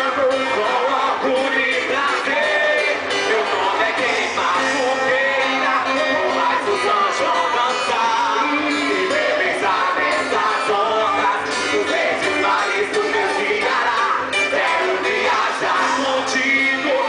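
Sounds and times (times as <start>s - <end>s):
music with singer: 0.0s - 17.0s.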